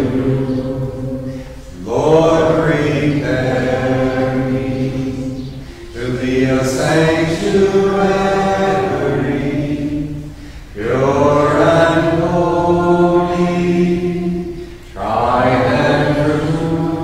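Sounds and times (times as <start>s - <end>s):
slow sung chant: 0.0s - 17.0s.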